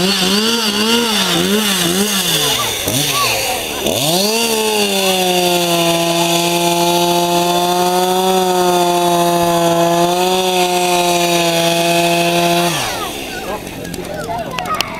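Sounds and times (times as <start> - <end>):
chainsaw cutting ice: 0.0 - 14.9.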